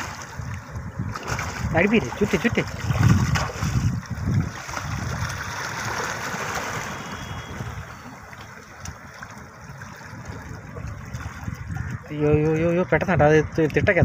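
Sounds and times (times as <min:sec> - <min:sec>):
water lapping against rocks: 0:00.0 - 0:14.0.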